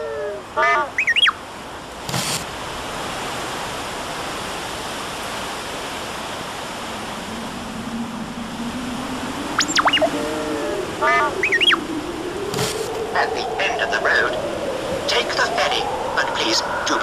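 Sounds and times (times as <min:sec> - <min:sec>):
rough sea surf: 0:00.0 - 0:17.0
wind: 0:00.0 - 0:17.0.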